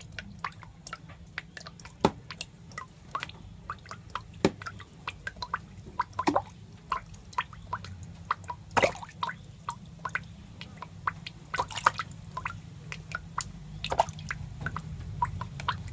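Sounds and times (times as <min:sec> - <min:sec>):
small wet clicks and crackles: 0:00.0 - 0:15.9.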